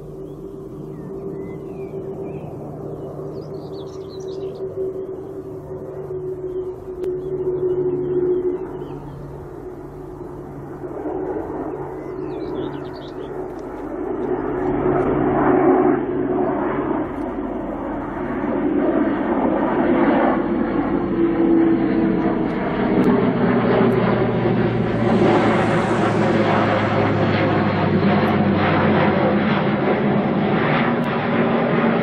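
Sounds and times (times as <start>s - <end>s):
turboprop aircraft flypast: 0.0s - 32.0s.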